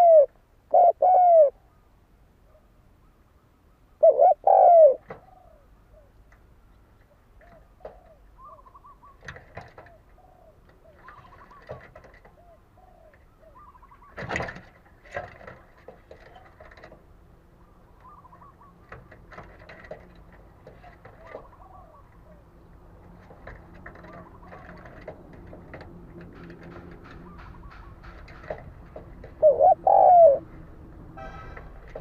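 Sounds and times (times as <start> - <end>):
doves cooing: 0.0 - 1.8, 4.0 - 6.2, 7.3 - 17.0, 17.6 - 30.6.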